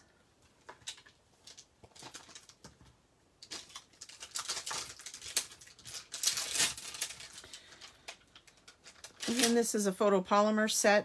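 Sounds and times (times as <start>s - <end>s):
plastic sheet crackling: 0.8s - 9.8s.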